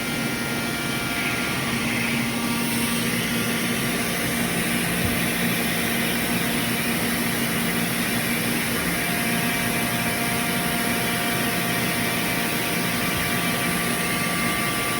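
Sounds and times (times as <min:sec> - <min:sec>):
machining center hum: 0:00.0 - 0:14.9.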